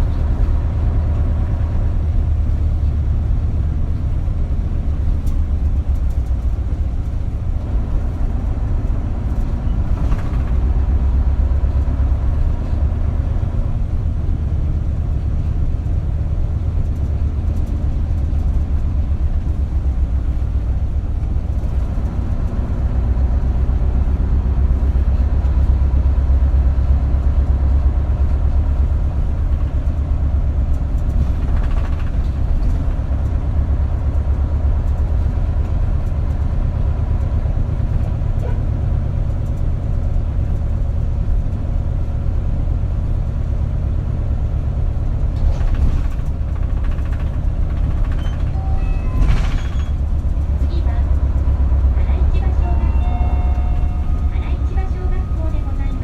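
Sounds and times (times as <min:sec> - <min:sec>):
bus engine rumble: 0:00.0 - 0:56.0
road noise: 0:00.0 - 0:56.0.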